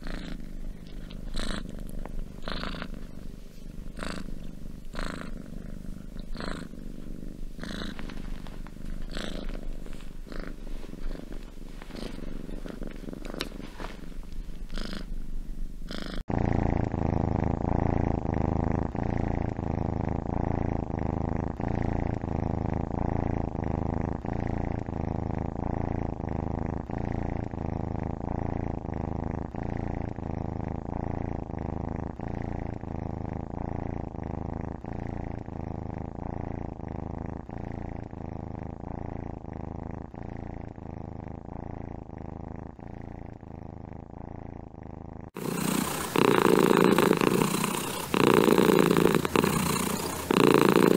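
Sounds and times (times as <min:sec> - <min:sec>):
cats purring: 0:00.0 - 0:50.9.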